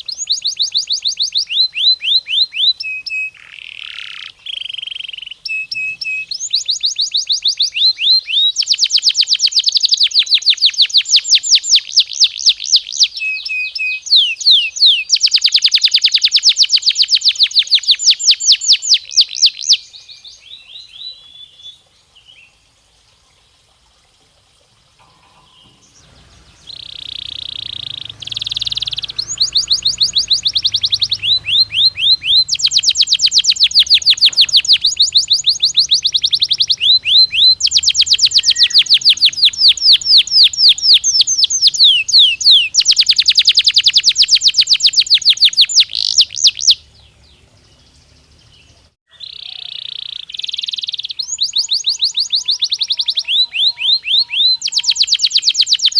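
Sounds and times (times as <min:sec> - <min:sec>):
canary singing trills: 0:00.0 - 0:22.6, 0:25.0 - 0:55.9.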